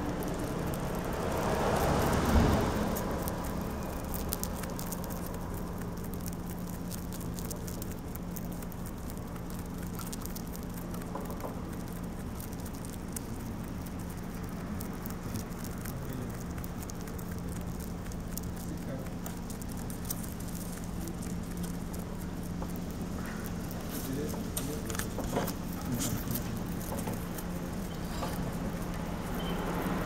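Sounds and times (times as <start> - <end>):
rabbit chewing crunchy stalk: 0.0 - 30.0.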